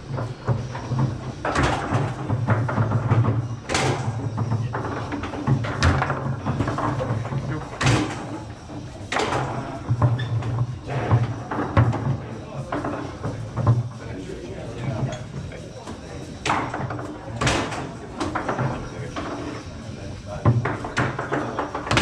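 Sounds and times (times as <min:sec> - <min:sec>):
background music: 0:00.0 - 0:22.0
foosball ball knocks and clacks: 0:00.1 - 0:14.0, 0:16.4 - 0:19.8, 0:20.4 - 0:22.0.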